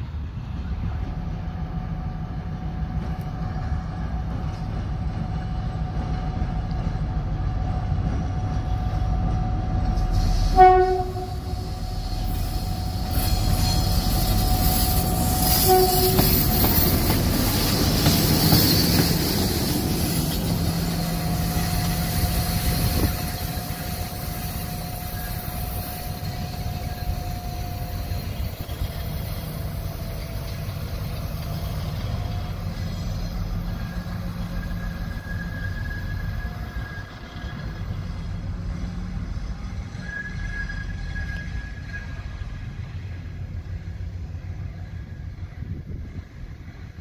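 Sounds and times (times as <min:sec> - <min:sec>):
diesel locomotive engine running: 0:00.0 - 0:47.0.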